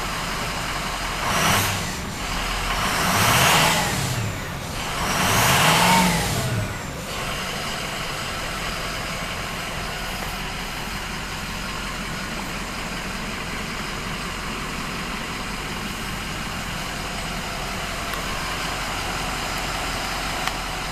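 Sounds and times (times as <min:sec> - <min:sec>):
diesel engine revving and idling: 0:00.0 - 0:20.9.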